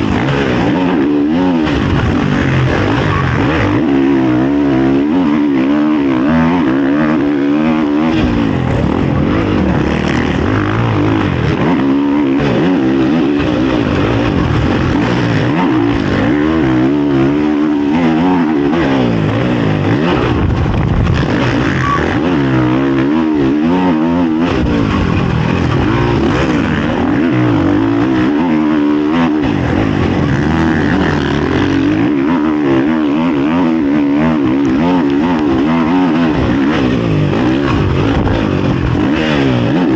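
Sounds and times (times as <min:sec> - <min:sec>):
rushing wind noise: 0:00.0 - 0:05.5, 0:06.2 - 0:39.9
motocross bike engine revving: 0:00.0 - 0:39.9.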